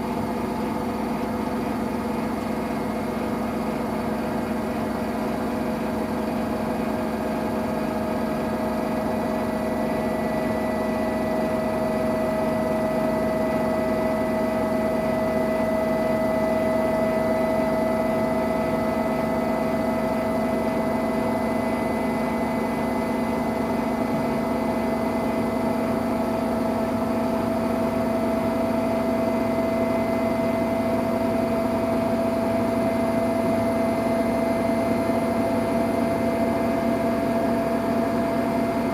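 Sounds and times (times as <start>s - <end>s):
washing machine motor whining: 0.0s - 38.9s.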